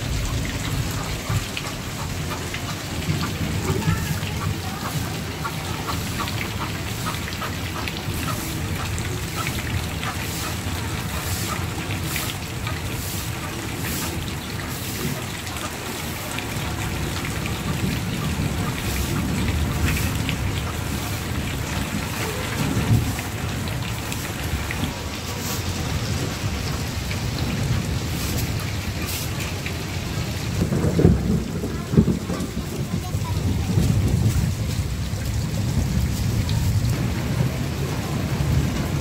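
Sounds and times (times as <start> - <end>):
heavy rain pouring: 0.0 - 39.0
runoff splashing into metal basin: 0.0 - 39.0.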